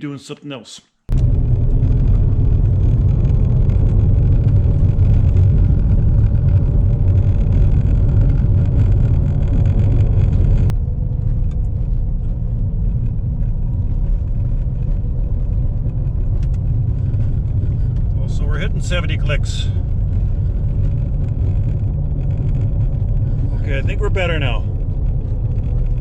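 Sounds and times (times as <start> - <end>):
road and tyre rumble inside car: 1.1 - 26.0.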